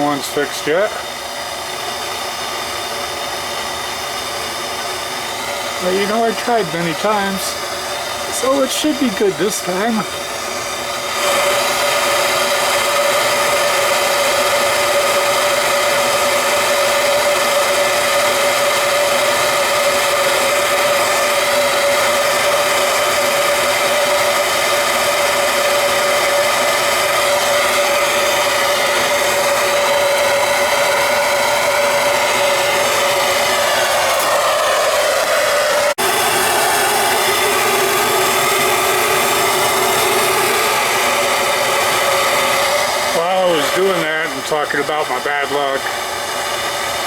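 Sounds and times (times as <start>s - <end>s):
torch flame hissing: 0.0s - 47.0s.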